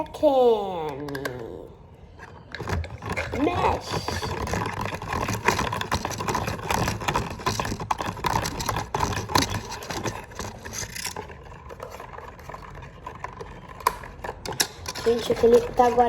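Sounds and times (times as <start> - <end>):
slime squishing and scraping: 2.1 - 16.0.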